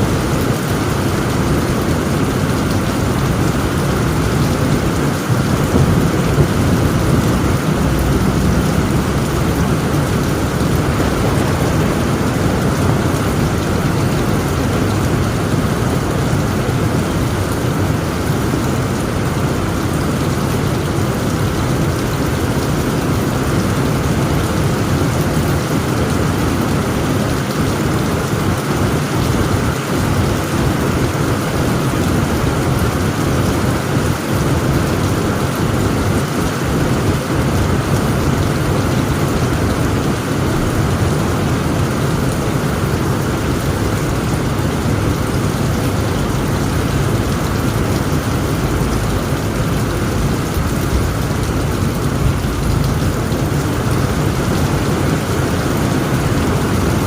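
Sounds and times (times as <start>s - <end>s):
heavy rain on a tent roof: 0.0s - 57.0s
low rumble of thunder: 0.1s - 25.2s, 34.8s - 57.0s.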